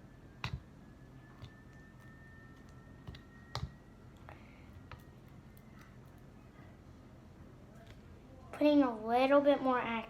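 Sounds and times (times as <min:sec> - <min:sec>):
faint steady high tone: 0:00.0 - 0:08.6.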